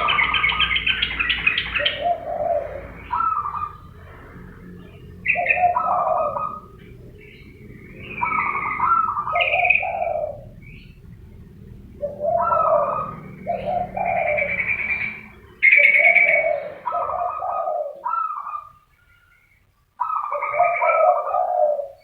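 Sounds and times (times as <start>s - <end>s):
doves cooing: 0.0s - 19.3s, 20.0s - 22.0s
higher chirping notes: 0.0s - 22.0s.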